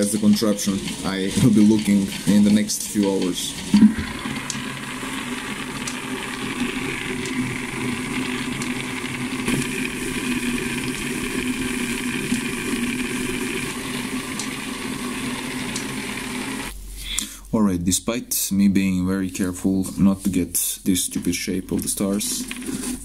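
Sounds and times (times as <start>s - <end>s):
steady machine hum: 0.0s - 19.9s.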